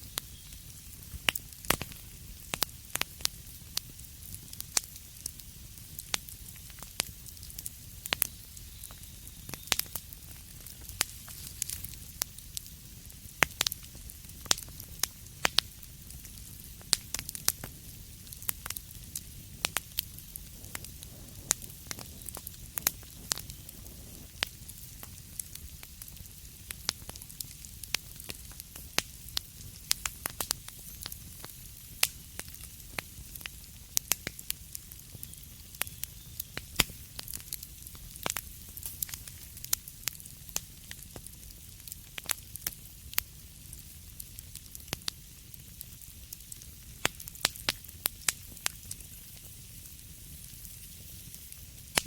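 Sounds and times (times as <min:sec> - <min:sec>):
flames hissing and rumbling: 0:00.0 - 0:52.0
wood fire popping and snapping: 0:00.0 - 0:52.0.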